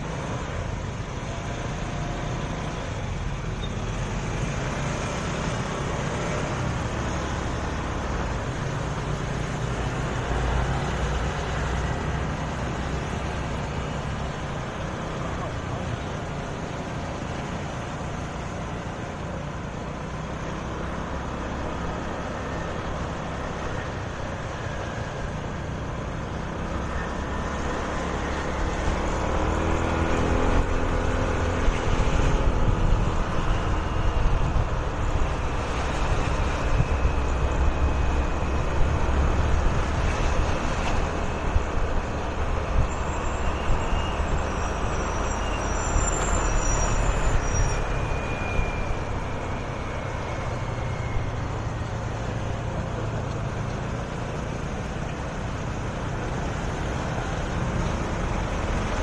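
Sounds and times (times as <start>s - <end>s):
scooter engine: 0.0s - 59.0s
truck engine running close: 0.0s - 59.0s
wind and road rumble: 0.0s - 59.0s.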